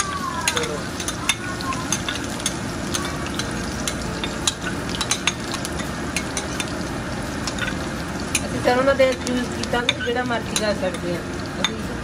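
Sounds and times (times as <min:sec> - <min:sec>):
oil sizzling with pops and crackles: 0:00.0 - 0:12.0.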